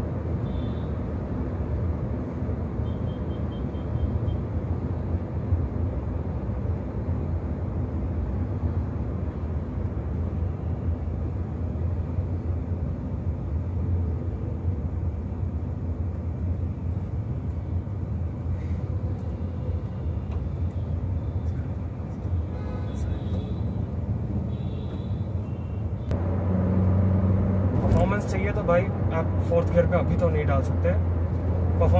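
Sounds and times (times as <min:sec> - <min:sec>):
car cabin drone: 0:00.0 - 0:24.4, 0:25.0 - 0:31.9.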